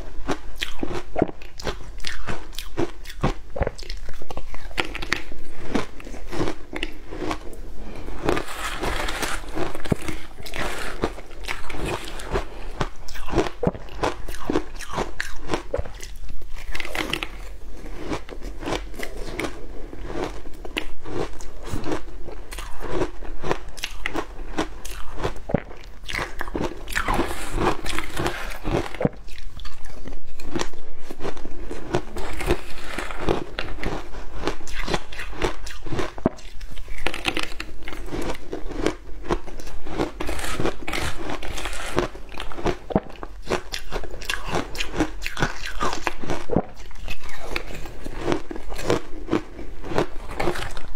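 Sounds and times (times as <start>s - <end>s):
chewing crunchy ice: 0.0s - 50.9s.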